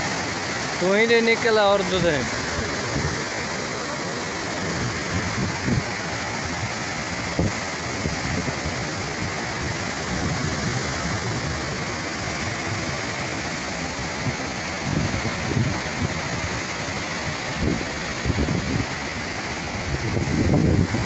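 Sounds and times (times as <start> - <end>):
rushing floodwater: 0.0 - 21.0.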